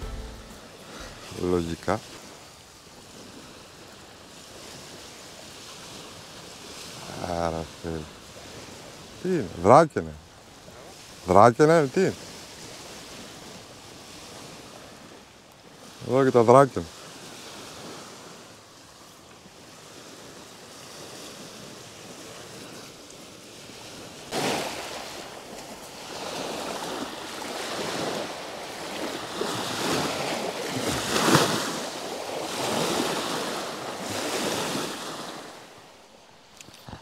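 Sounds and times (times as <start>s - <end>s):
small waves washing on shore: 0.0s - 37.0s.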